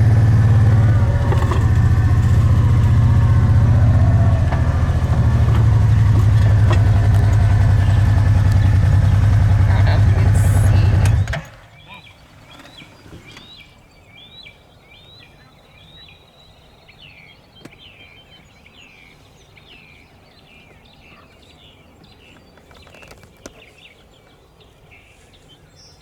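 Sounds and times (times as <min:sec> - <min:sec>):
faint outdoor background noise: 0:00.0 - 0:26.0.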